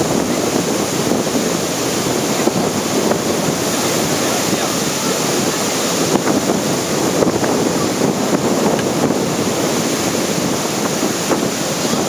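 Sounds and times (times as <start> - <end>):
surf breaking and churning: 0.0 - 12.0
wind buffeting microphone: 0.0 - 12.0.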